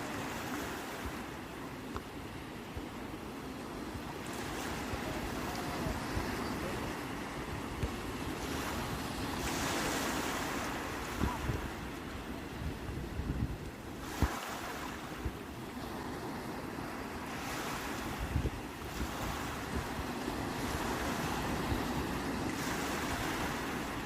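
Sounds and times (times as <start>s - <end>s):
sea waves washing in: 0.0s - 24.0s
wind buffeting microphone: 2.2s - 24.0s.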